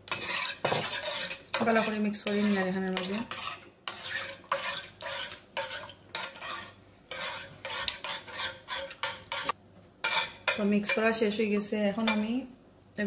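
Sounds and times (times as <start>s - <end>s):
spoon scraping metal pan: 0.0s - 11.2s.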